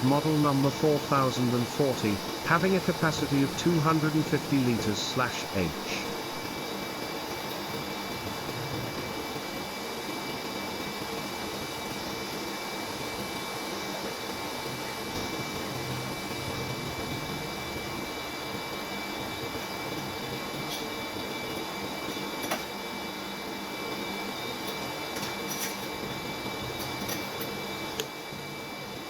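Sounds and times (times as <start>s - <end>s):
machine-like hum and hiss: 0.0s - 29.0s.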